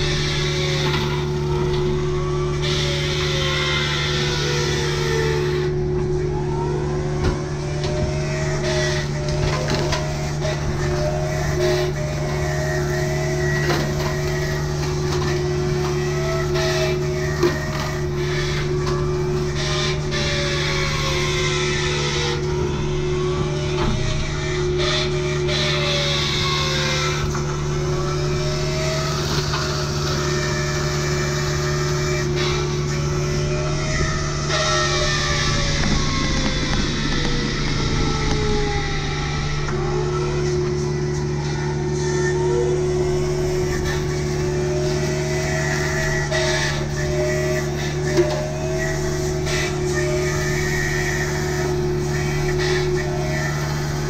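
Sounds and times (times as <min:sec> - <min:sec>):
excavator diesel engine running: 0:00.0 - 0:54.0
hydraulic brush cutter whine: 0:00.0 - 0:54.0.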